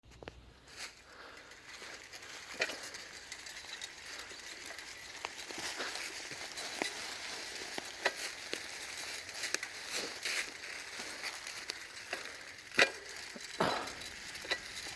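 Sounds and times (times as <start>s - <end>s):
bicycle clicks and rattles: 0.1s - 14.9s
bicycle tyres hissing on trail: 0.5s - 14.9s.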